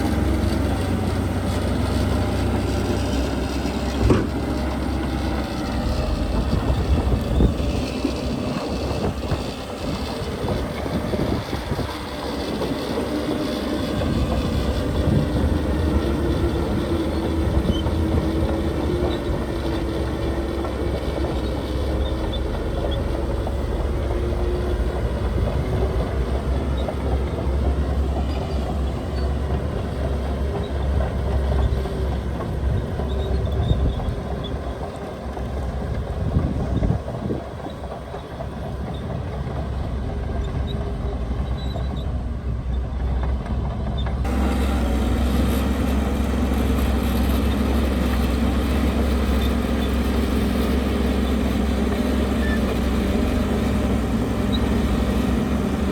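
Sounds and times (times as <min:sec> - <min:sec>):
diesel machinery engine rumble: 0:00.0 - 0:55.9.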